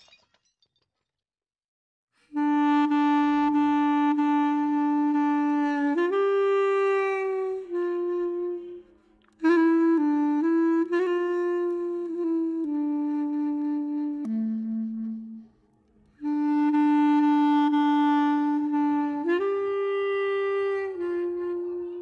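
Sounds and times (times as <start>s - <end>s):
slow solo woodwind melody: 2.2s - 22.0s.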